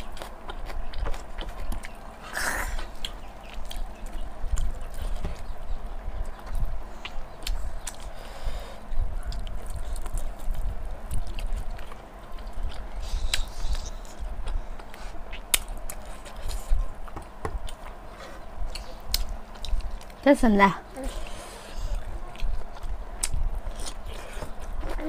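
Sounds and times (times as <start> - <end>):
chewing and eating: 0.0 - 25.0.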